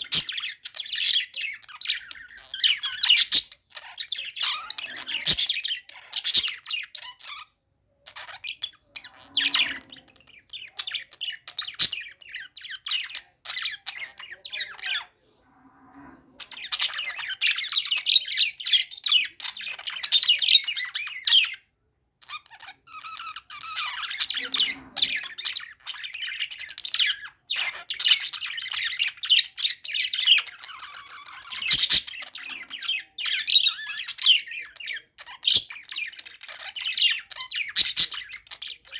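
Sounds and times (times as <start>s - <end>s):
budgies chirping and chattering: 0.0s - 38.9s.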